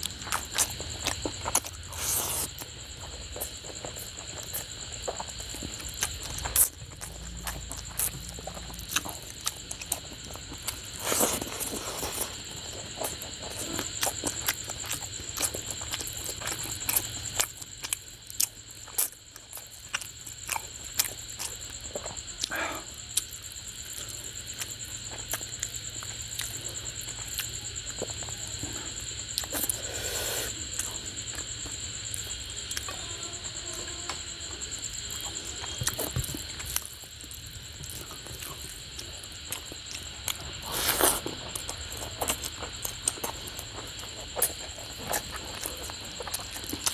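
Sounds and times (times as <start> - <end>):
wet chewing and lip smacks: 0.0 - 33.0, 34.9 - 46.9.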